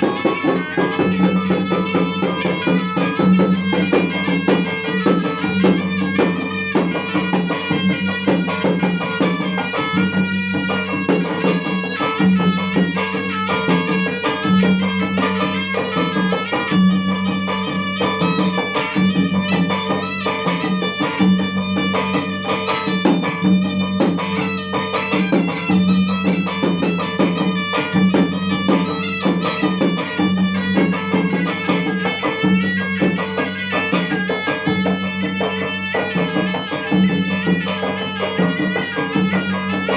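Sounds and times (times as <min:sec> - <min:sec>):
drums beaten in rhythm: 0:00.0 - 0:39.9
reedy wind instrument melody: 0:00.0 - 0:39.9.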